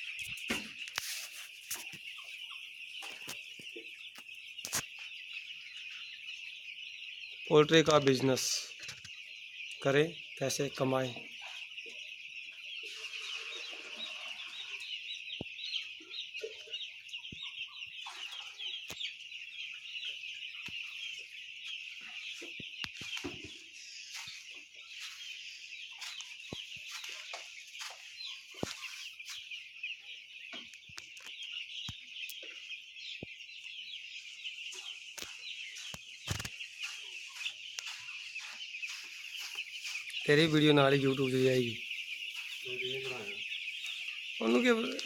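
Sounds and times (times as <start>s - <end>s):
chickens calling: 0.0s - 45.0s.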